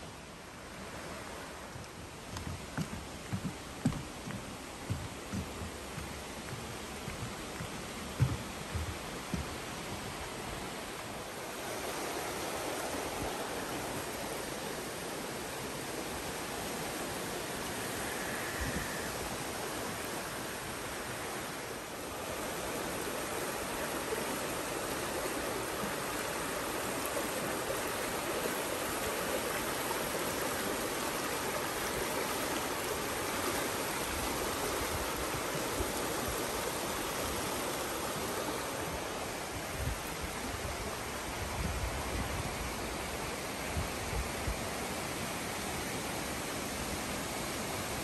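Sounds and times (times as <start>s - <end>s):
creek rushing over rocks: 0.0s - 48.0s.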